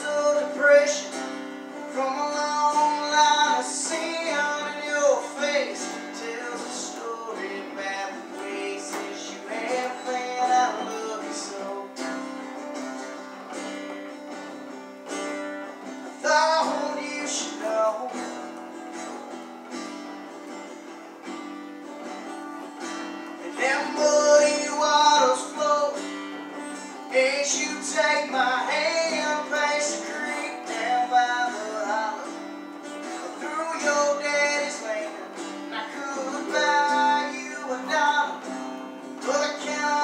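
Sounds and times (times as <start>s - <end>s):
person singing: 0.0s - 13.5s, 16.0s - 18.6s, 23.4s - 40.0s
acoustic guitar strumming: 0.0s - 40.0s
country-rock song recording: 0.0s - 40.0s.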